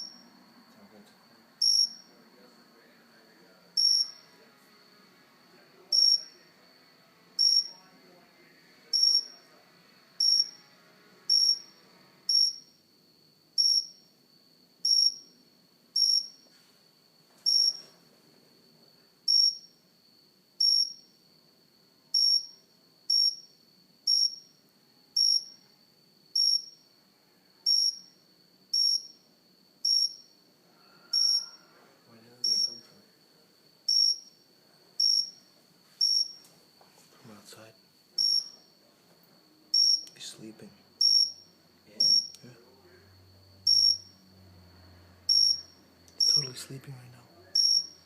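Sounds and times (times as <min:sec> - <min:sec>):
cricket chirping: 0:00.0 - 0:48.0.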